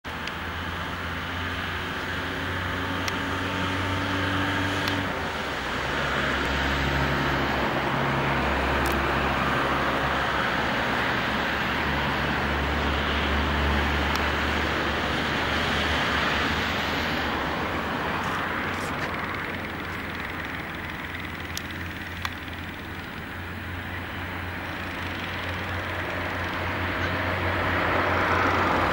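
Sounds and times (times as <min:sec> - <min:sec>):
low engine hum: 0:00.1 - 0:28.9
passing cars hissing: 0:00.4 - 0:28.9.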